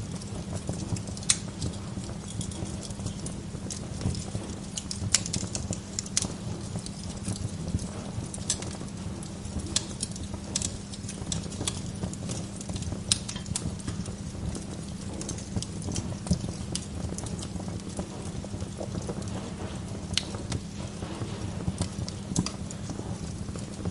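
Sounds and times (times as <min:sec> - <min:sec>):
low rumble of flames: 0:00.0 - 0:23.9
wood fire crackling and popping: 0:00.0 - 0:23.9.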